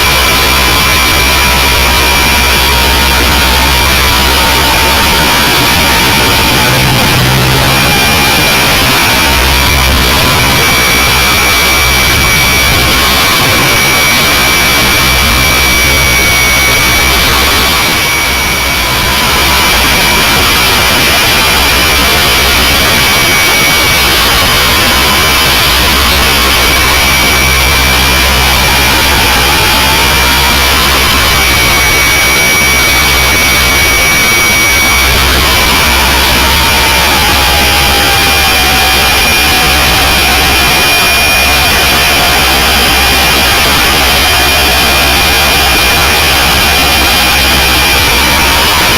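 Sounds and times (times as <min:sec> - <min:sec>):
high motor whine: 0:00.0 - 0:48.9
rotor and wind rush: 0:00.0 - 0:48.9.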